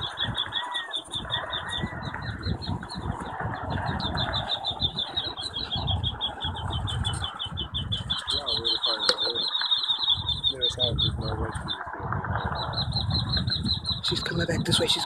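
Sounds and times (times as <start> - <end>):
quail chicks peeping: 0.0 - 15.0
wind rumble on microphone: 0.0 - 15.0.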